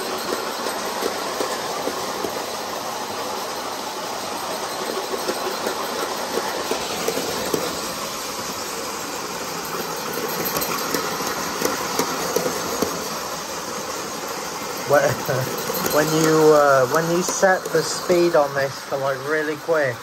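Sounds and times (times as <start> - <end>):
model train rolling on track: 0.0 - 20.0.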